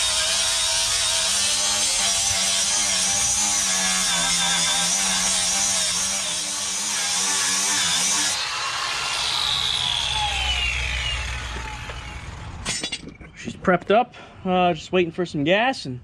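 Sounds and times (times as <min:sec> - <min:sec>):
grinder grinding metal: 0:00.0 - 0:13.0.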